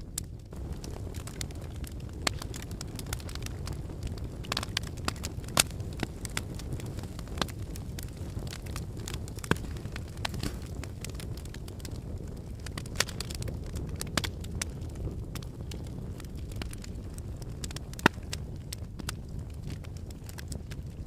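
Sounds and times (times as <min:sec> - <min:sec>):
logs crackling and popping: 0:00.0 - 0:21.0
low rumble of flames: 0:00.0 - 0:21.0.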